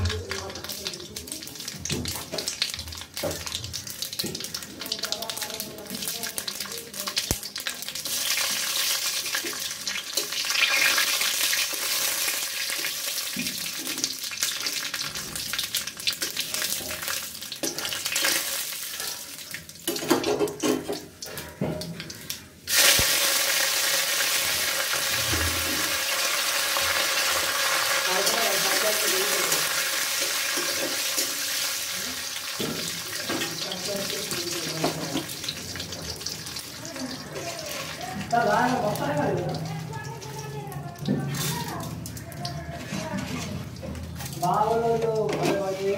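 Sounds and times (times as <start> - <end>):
hot oil sizzling and crackling: 0.0 - 45.9.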